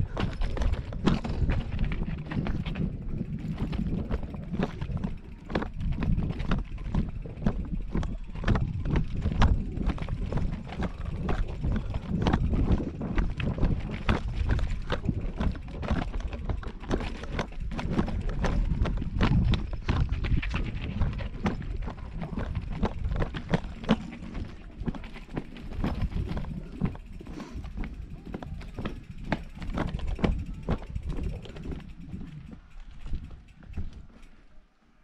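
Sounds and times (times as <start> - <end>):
bike rolling over paving stones: 0.0 - 34.5
bike clacking and rattling: 0.0 - 34.7.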